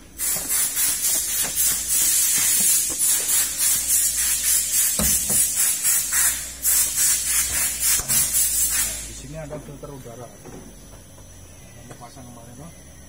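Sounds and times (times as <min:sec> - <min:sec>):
loud steady hiss: 0:00.0 - 0:13.0.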